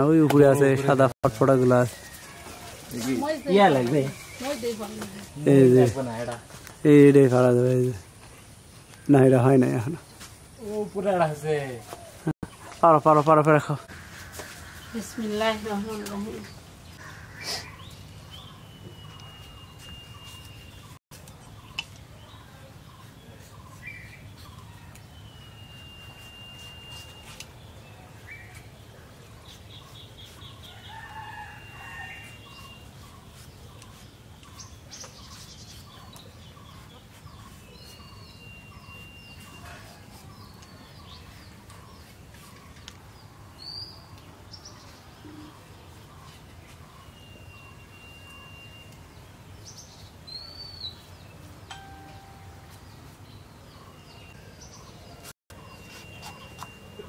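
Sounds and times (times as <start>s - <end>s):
birds calling: 8.3s - 57.0s.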